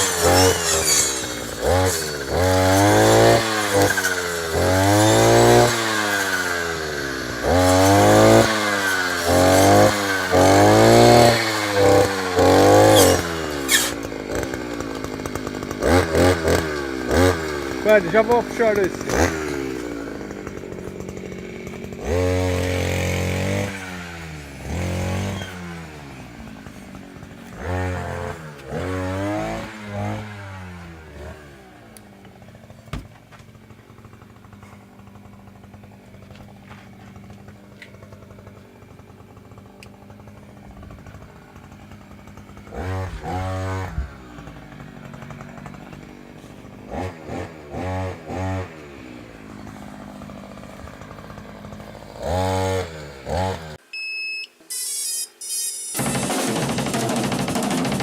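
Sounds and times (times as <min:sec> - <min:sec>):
brushcutter engine revving: 0:00.0 - 0:58.0.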